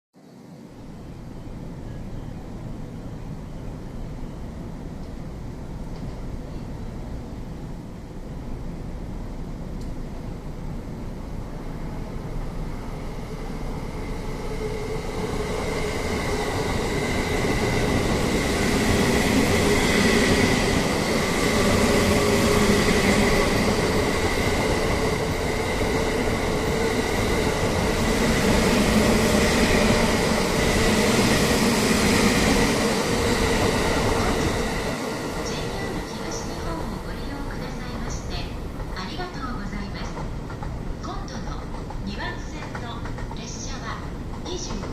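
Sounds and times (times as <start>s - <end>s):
train hum and whine: 0.2s - 44.9s
train rolling past: 0.2s - 44.9s.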